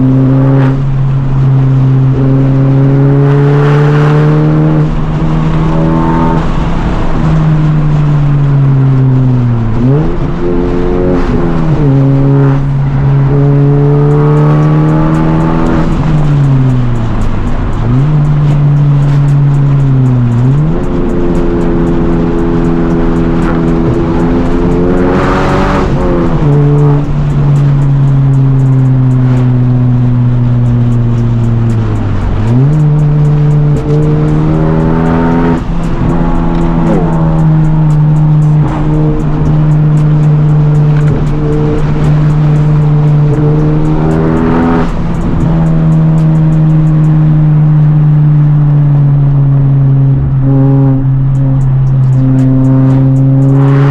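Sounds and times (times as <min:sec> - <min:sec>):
car engine revving through gears: 0:00.0 - 0:53.9.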